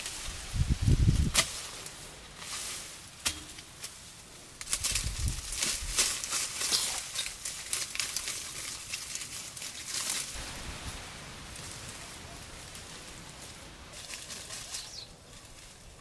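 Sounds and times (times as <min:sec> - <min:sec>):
dry rustling and crackling: 0:00.0 - 0:16.0.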